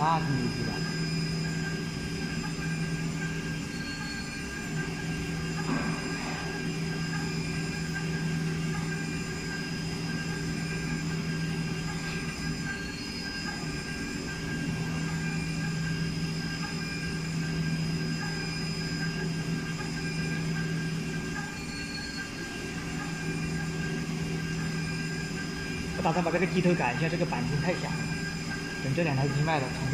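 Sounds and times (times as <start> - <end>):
milling machine spindle cutting metal: 0.0 - 29.9.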